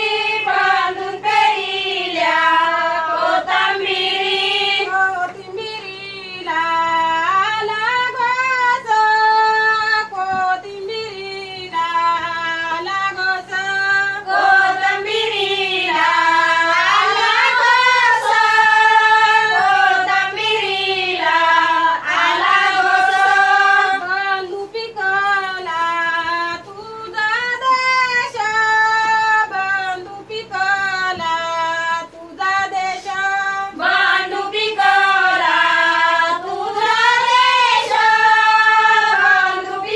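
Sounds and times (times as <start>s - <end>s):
women singing folk song: 0.0s - 39.9s.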